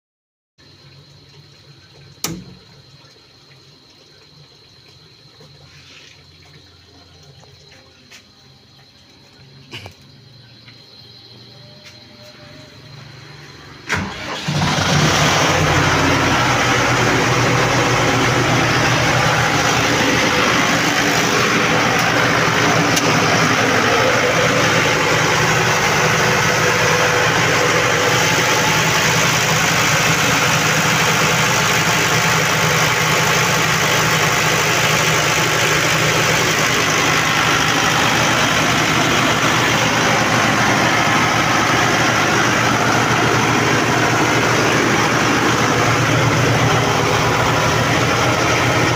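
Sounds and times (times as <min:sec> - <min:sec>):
generator engine running: 0:09.1 - 0:48.9.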